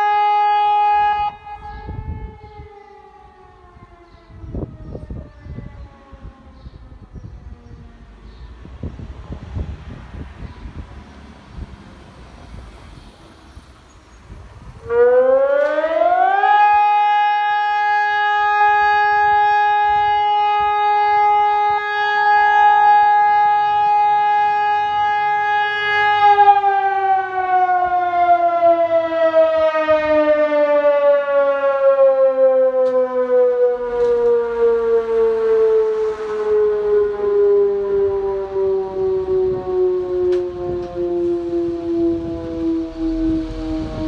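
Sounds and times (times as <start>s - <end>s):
electronic siren: 0.0s - 9.7s, 14.7s - 44.0s.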